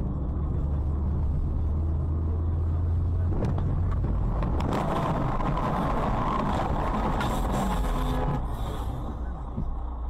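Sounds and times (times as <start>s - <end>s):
car driving interior rumble: 0.0s - 10.0s.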